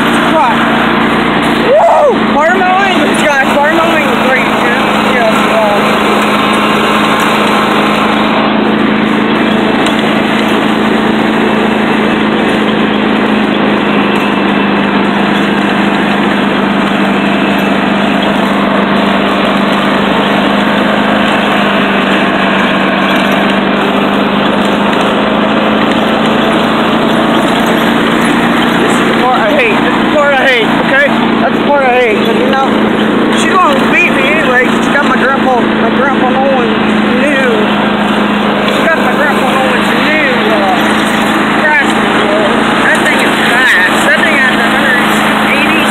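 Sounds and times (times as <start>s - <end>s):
riding lawn mower engine: 0.0s - 45.9s.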